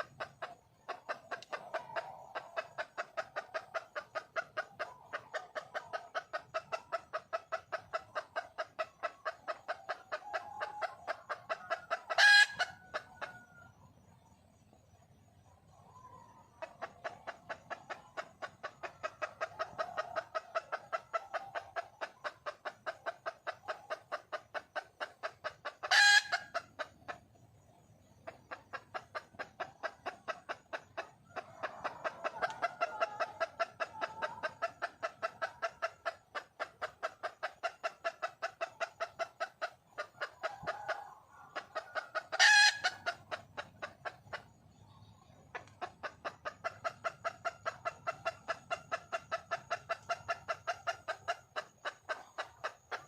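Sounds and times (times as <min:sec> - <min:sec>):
hen clucking rapidly: 0:00.0 - 0:14.7, 0:15.6 - 0:53.0.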